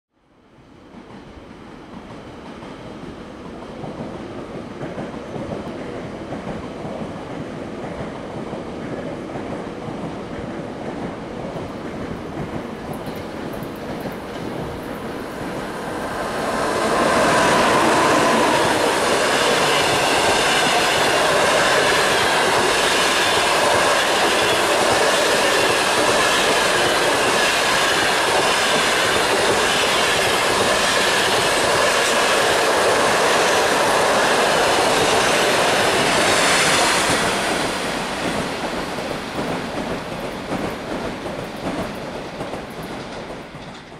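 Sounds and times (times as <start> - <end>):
train wheels and rail clatter: 0.7 - 43.9.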